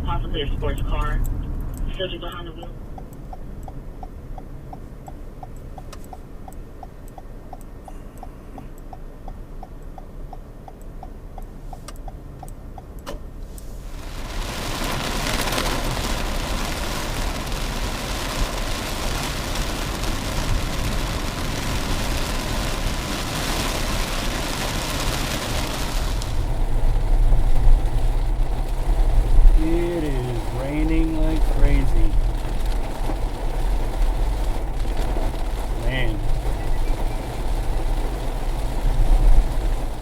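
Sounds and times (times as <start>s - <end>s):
heavy rain on vehicle: 0.0s - 6.2s, 13.3s - 40.0s
engine and road hum: 0.0s - 40.0s
turn signal ticking: 0.0s - 40.0s.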